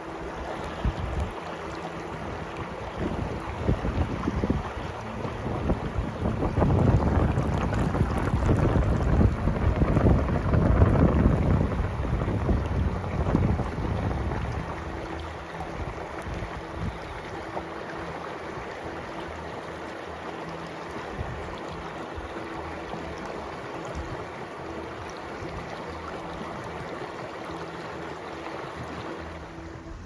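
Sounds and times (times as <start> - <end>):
wind buffeting microphone: 0.4 - 19.5, 20.9 - 27.0.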